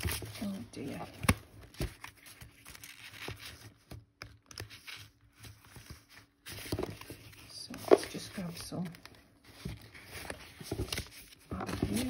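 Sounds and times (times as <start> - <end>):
paper rustling: 0.0 - 12.0.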